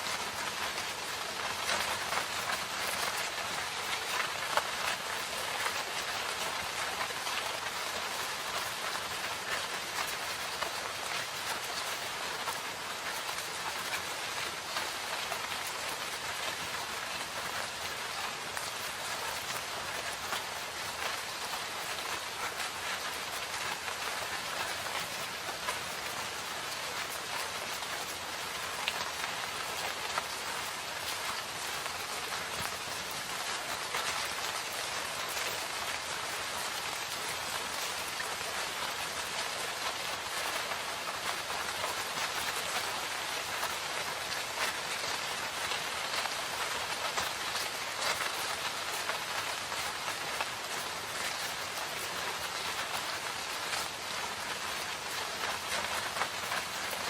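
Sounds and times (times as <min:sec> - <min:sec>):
rain pattering in a forest: 0:00.0 - 0:57.0
raindrops clicking: 0:00.0 - 0:57.0.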